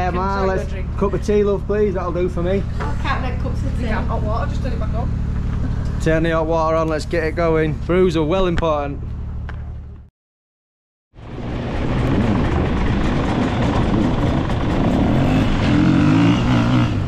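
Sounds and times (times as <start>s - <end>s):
vehicle engine running loud: 0.0s - 10.1s, 11.2s - 17.0s.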